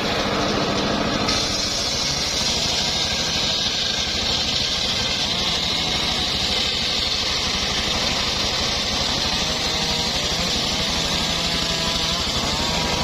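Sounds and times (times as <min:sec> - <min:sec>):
saw blade hissing: 0:00.0 - 0:13.0
sawmill motor pulsing: 0:00.0 - 0:13.0.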